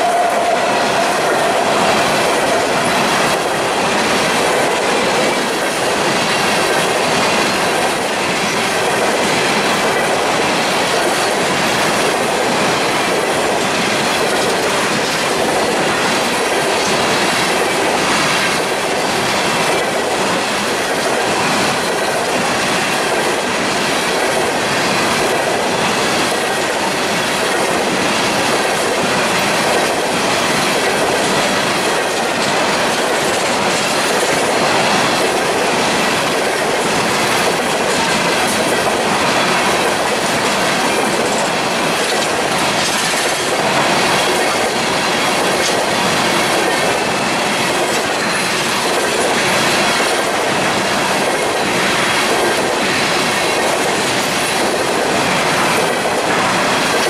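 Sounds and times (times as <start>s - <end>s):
steel wheels rumbling on rail: 0.0s - 57.0s
wheels clicking over rail joints: 0.1s - 57.0s.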